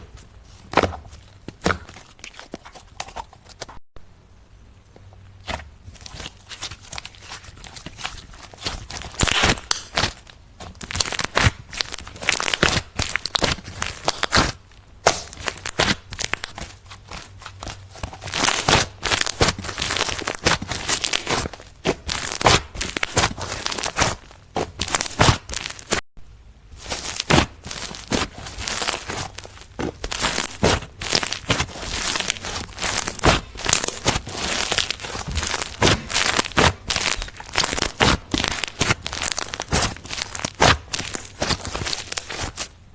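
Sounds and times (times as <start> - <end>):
slime crackling and popping: 5.4 - 26.0, 26.8 - 42.7.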